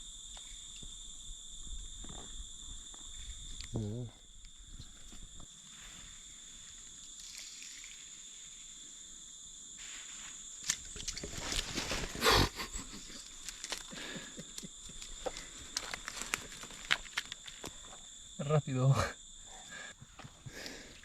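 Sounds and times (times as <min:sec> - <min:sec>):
high-pitched insect drone: 0:00.0 - 0:20.3.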